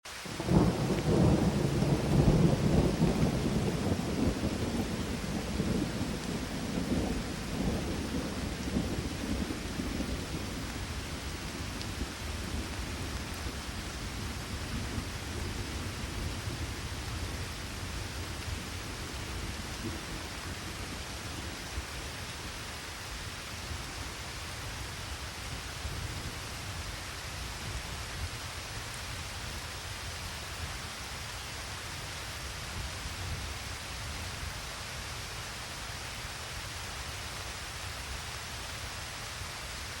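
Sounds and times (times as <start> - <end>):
steady rain hiss: 0.1 - 40.0.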